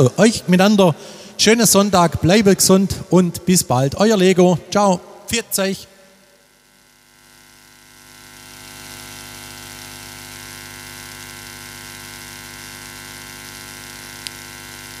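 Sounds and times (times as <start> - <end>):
electrical mains hum and hiss: 0.0 - 15.0.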